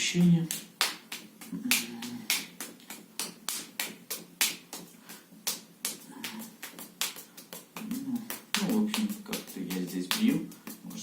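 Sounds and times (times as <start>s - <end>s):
hand slapping arm: 0.2s - 11.0s.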